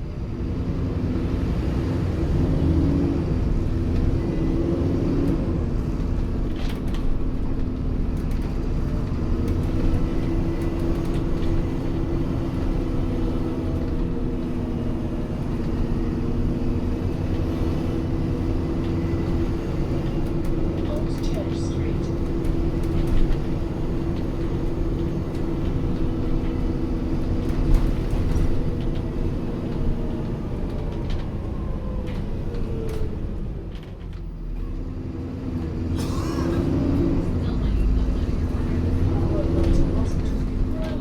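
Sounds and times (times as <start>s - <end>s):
bus engine drone: 0.0s - 41.0s.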